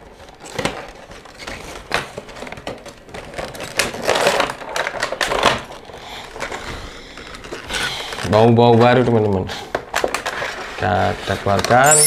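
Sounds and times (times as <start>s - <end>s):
cardboard and plastic rustling: 0.0s - 11.8s.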